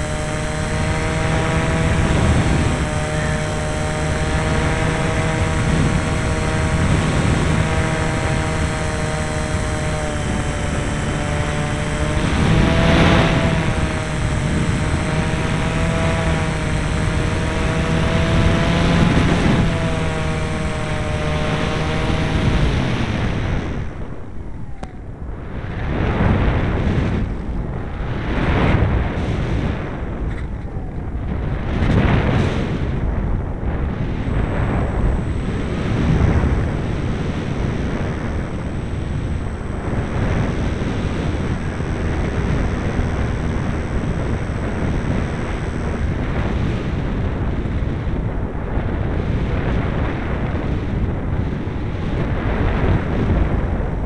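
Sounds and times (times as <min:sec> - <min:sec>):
model airplane motor and propeller: 0:00.0 - 0:54.0
wind rushing over microphone: 0:00.0 - 0:54.0.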